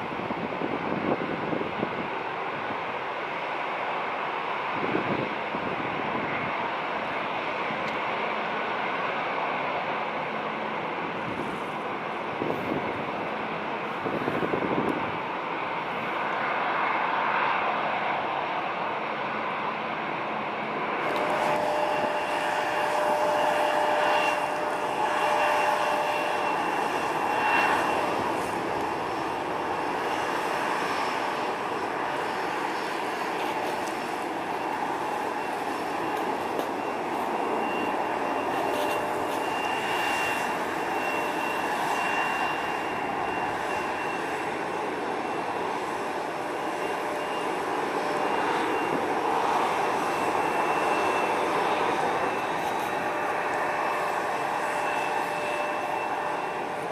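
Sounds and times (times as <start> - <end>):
jet engines high whine and rush: 0.0 - 56.9.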